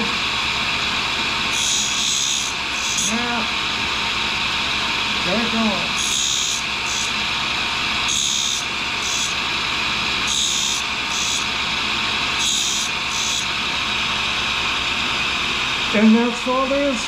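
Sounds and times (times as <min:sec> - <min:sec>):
grinder high whine: 0:00.0 - 0:17.0.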